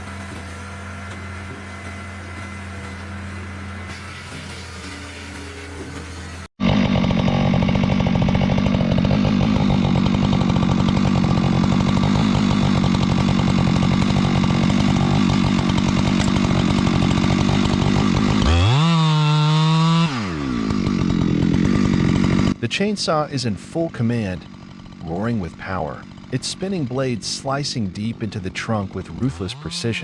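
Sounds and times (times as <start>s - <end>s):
chainsaw engine revving: 0.0s - 30.0s.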